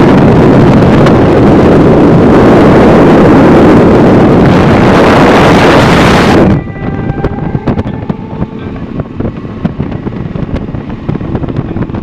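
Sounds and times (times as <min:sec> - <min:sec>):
road noise: 0:00.0 - 0:12.0
wind rushing over microphone: 0:00.0 - 0:12.0.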